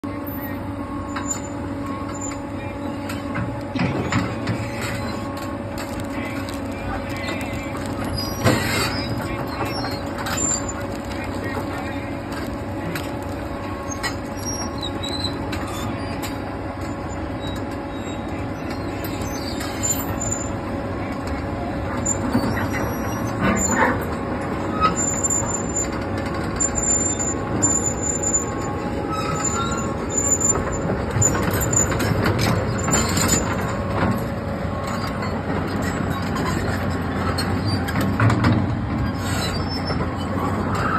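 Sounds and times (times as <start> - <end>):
excavator diesel engine running: 0.0 - 40.9
steel tracks squealing and clanking: 0.0 - 40.9.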